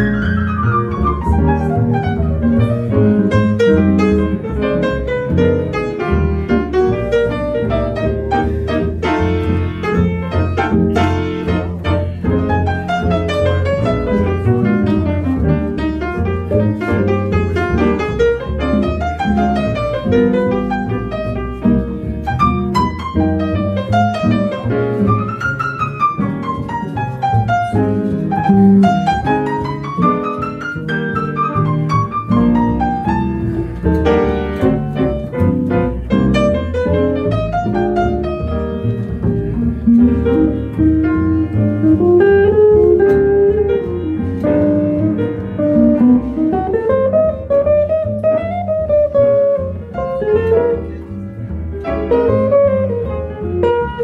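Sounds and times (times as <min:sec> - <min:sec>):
plucked double bass: 0:00.0 - 0:54.0
swing piano runs: 0:00.0 - 0:54.0.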